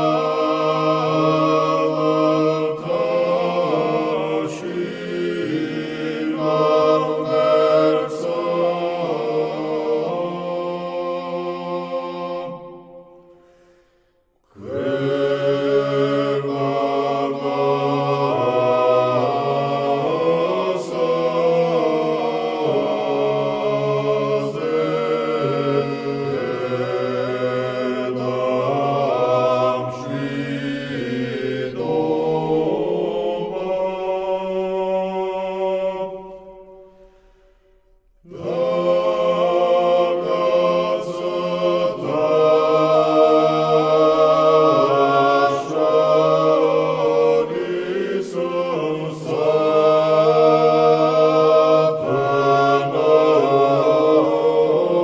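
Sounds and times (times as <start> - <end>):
unaccompanied choir chanting: 0.0 - 55.0.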